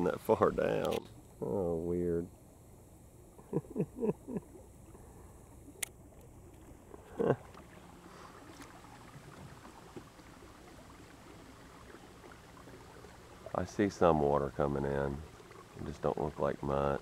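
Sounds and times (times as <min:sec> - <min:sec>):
water lapping against boat: 0:02.4 - 0:17.0.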